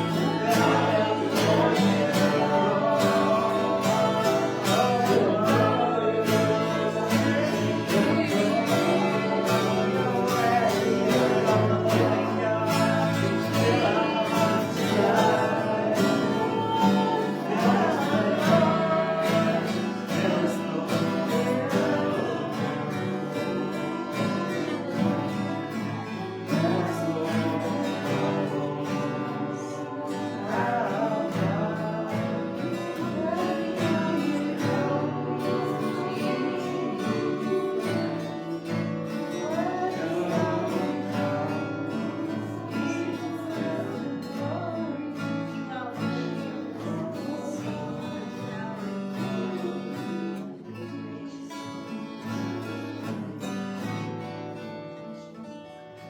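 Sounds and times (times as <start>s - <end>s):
person singing worship song: 0.0s - 54.3s
guitar accompaniment: 0.0s - 56.0s.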